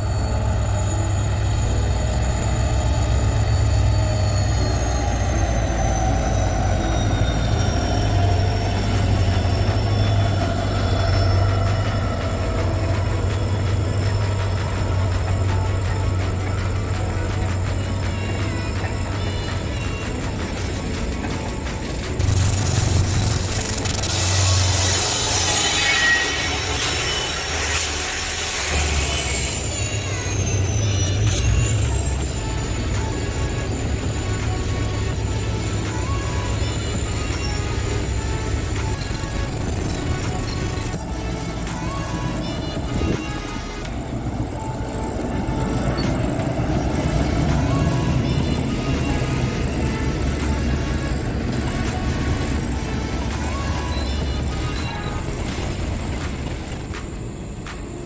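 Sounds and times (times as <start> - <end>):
high whining tones: 0.0 - 57.8
diesel locomotive engine drone: 0.0 - 58.0
train wheels rumbling on rails: 0.0 - 58.0.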